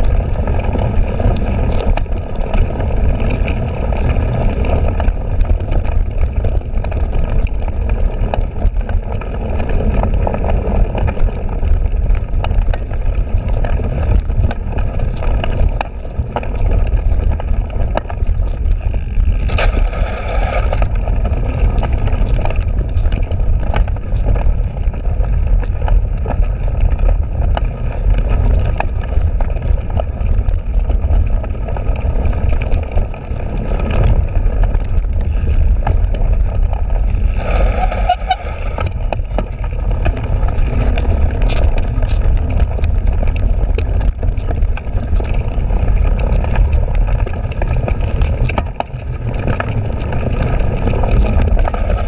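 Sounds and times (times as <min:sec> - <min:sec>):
bike clicks and rattles: 0:00.0 - 0:52.0
bike tyres rumbling on grass: 0:00.0 - 0:52.0
wind buffeting microphone: 0:00.0 - 0:52.0.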